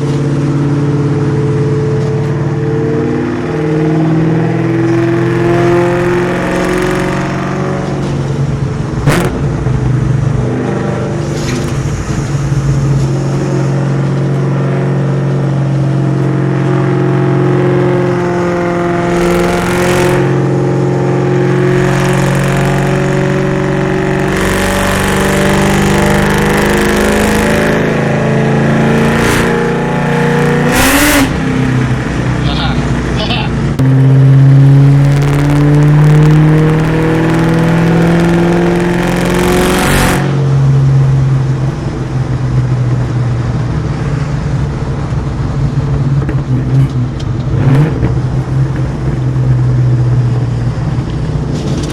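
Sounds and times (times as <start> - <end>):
loud car engine while driving: 0.0 - 51.9.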